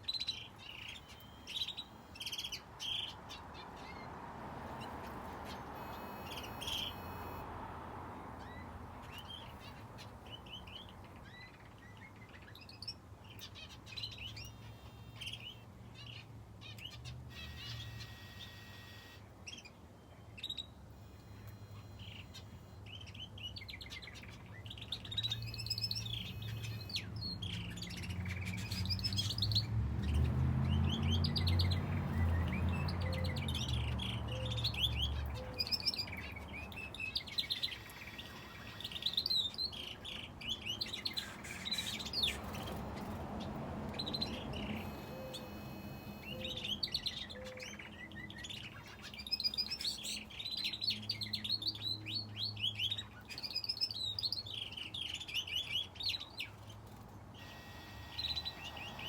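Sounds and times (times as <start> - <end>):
finches and canary chirping: 0.0 - 7.5, 8.4 - 59.0.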